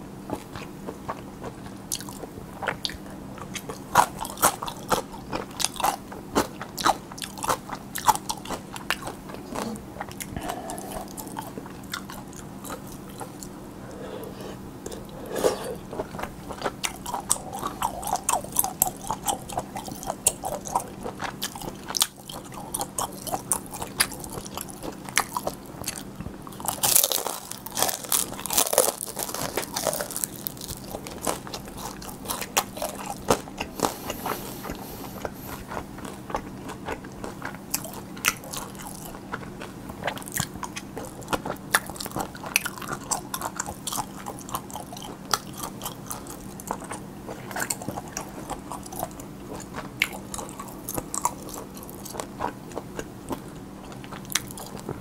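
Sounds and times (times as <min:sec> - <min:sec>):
crunchy biting and chewing: 0:00.3 - 0:55.0.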